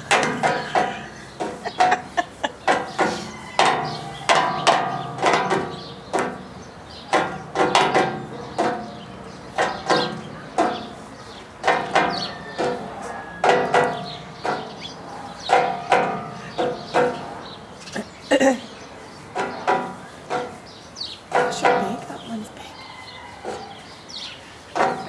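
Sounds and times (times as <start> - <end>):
beaks pecking metal rails: 0.0 - 18.5, 19.2 - 25.0.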